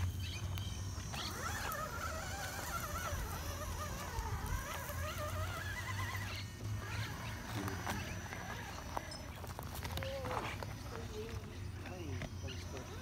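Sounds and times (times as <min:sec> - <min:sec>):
electric motors whining: 0:00.0 - 0:13.0
steady low hum: 0:00.0 - 0:13.0.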